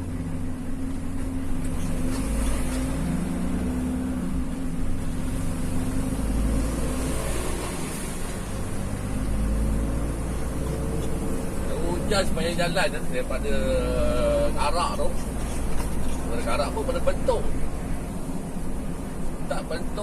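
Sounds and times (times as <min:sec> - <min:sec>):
road noise inside vehicle: 0:00.0 - 0:20.0
vehicle engine hum: 0:00.0 - 0:20.0.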